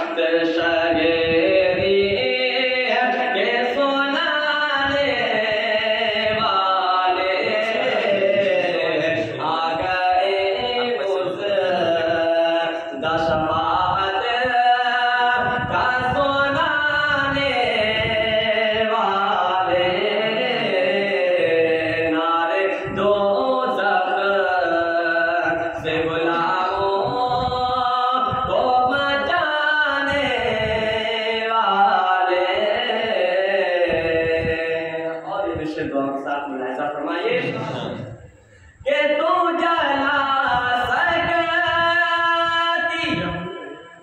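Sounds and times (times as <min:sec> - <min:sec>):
person chanting into microphone: 0:00.0 - 0:44.0.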